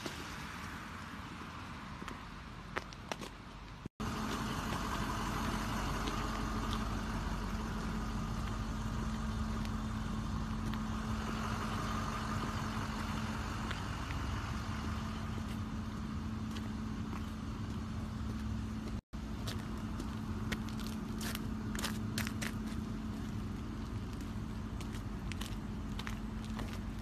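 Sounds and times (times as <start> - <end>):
vehicle engines humming: 0.0 - 27.0.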